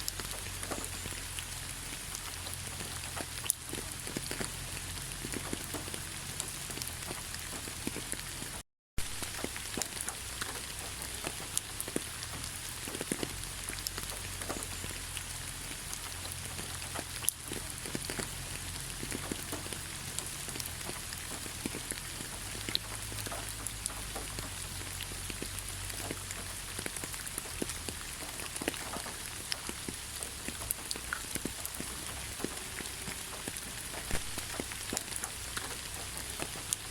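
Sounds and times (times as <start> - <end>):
raindrops striking a surface: 0.0 - 36.9
steady rainfall: 0.0 - 36.9.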